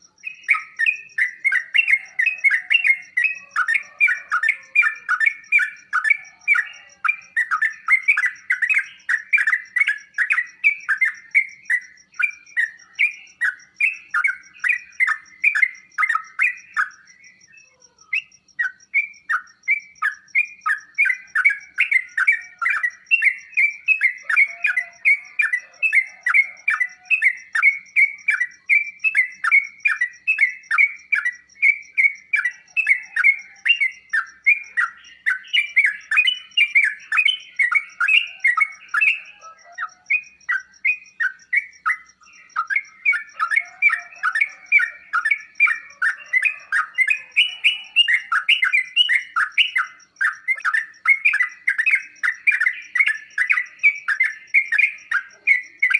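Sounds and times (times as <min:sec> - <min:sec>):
bird song of bubbly chirps: 0:00.0 - 0:55.9.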